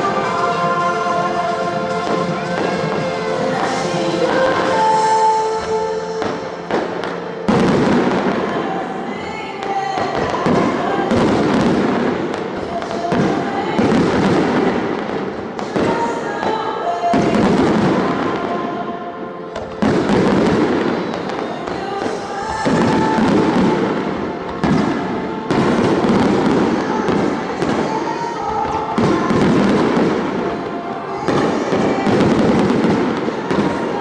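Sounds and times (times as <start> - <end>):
fireworks booming and crackling: 0.0 - 34.0
music: 0.0 - 34.0.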